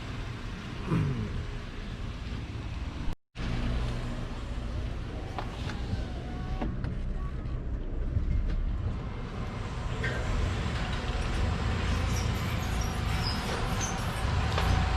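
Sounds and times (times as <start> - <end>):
low mechanical rumble: 0.2 - 14.9.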